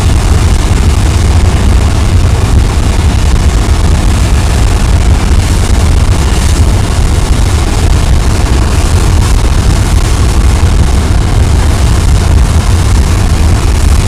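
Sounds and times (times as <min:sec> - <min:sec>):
deep roar of propane flames: 0:00.0 - 0:14.0.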